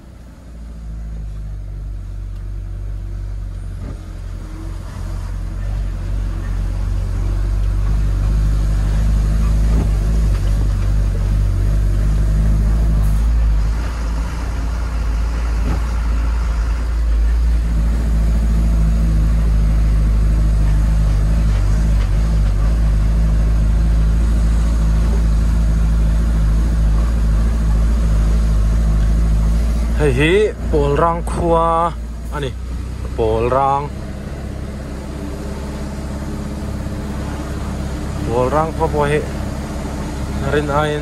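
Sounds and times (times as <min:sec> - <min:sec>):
road noise: 0:00.0 - 0:41.0
vehicle engine drone: 0:00.0 - 0:41.0.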